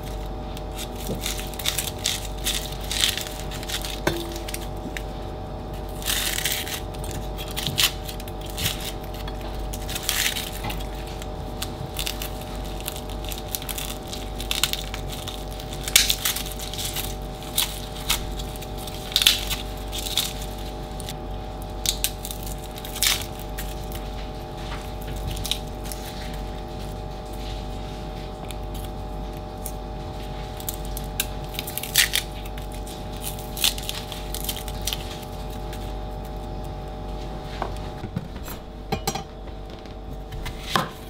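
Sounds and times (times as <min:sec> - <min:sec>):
onion skins crackling and tearing: 0:00.0 - 0:41.0
steady hum: 0:00.0 - 0:41.0.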